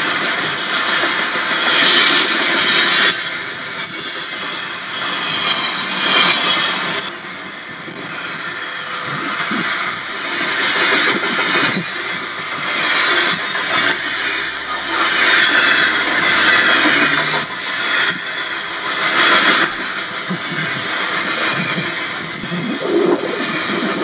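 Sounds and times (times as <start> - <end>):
diesel locomotives passing: 0.0 - 24.0.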